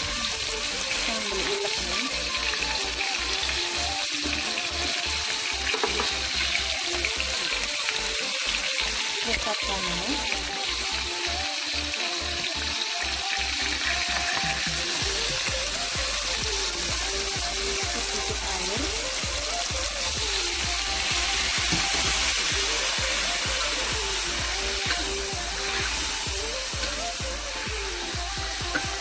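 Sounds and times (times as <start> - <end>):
background music with melody: 0.0 - 29.0
chicken sizzling in hot oil: 0.0 - 29.0.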